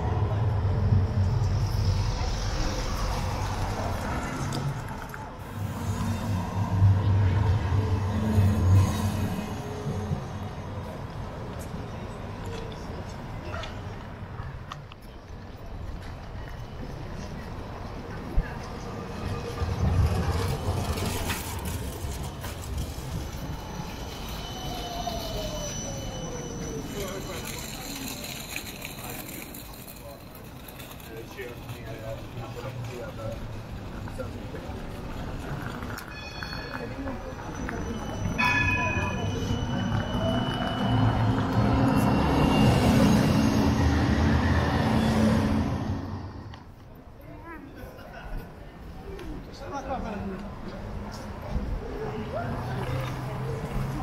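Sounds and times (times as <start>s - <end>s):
tram low drone: 0.0s - 47.4s
street noise: 0.0s - 54.0s.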